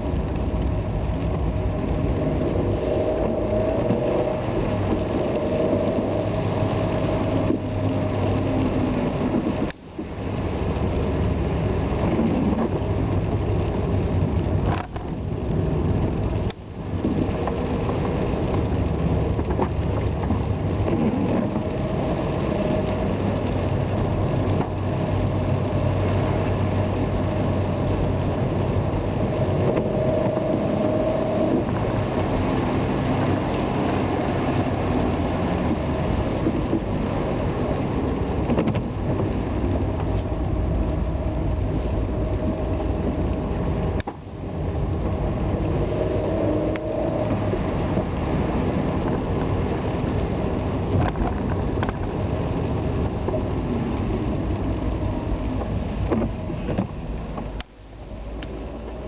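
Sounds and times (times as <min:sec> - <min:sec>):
tyre noise on wet road: 0:00.0 - 0:59.0.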